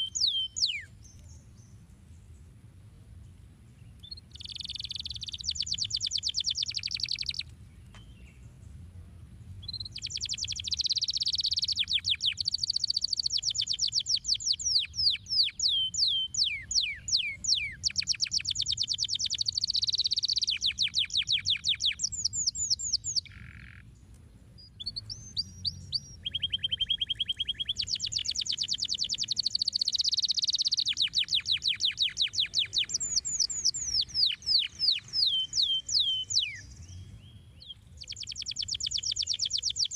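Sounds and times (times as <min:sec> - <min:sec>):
canary singing trills: 0:00.0 - 0:01.8, 0:03.8 - 0:08.4, 0:09.6 - 0:24.0, 0:24.6 - 0:39.9.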